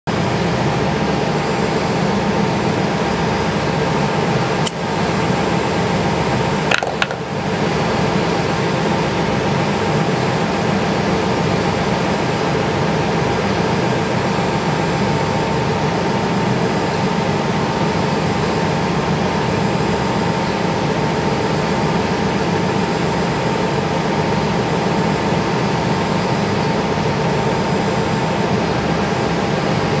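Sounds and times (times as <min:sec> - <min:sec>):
wind tunnel fan humming: 0:00.2 - 0:30.0.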